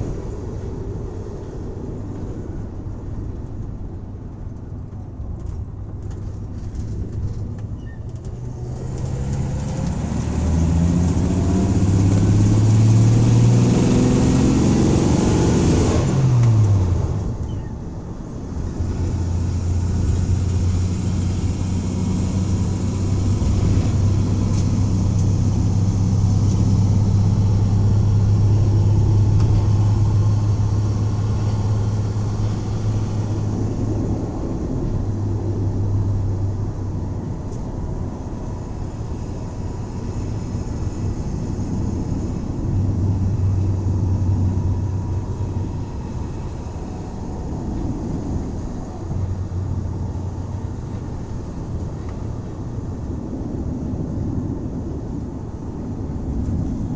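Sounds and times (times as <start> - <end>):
road noise: 0.0 - 56.9
van engine drone: 0.0 - 56.9.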